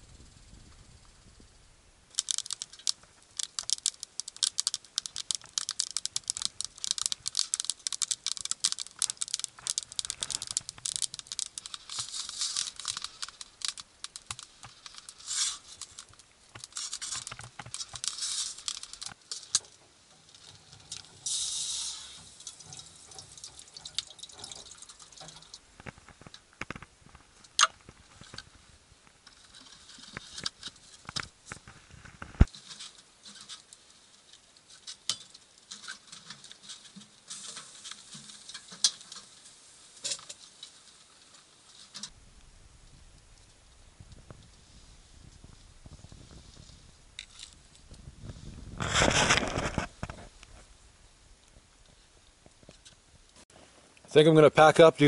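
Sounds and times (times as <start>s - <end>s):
twigs crackling in wood stove: 2.1s - 55.0s.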